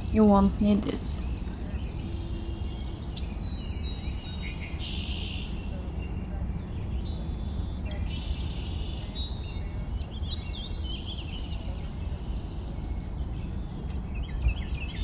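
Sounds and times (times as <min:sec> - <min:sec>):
low outdoor rumble: 0:00.0 - 0:15.0
small birds chirping and singing: 0:00.0 - 0:15.0.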